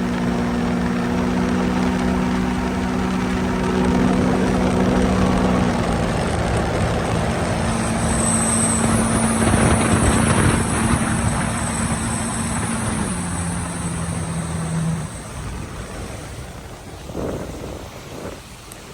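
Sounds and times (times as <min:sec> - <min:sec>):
jet ski engine running: 0:00.0 - 0:18.9
rushing water and wind: 0:00.0 - 0:18.9.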